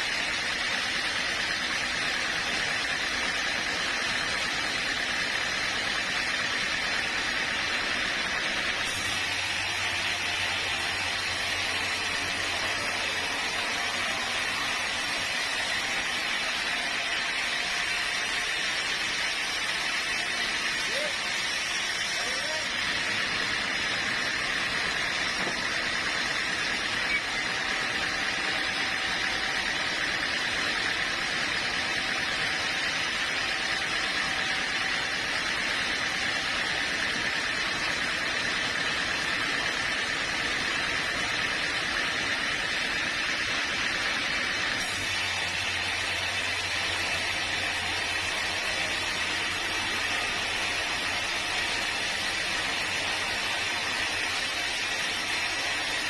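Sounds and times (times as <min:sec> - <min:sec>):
sawmill machinery hissing: 0:00.0 - 0:56.0.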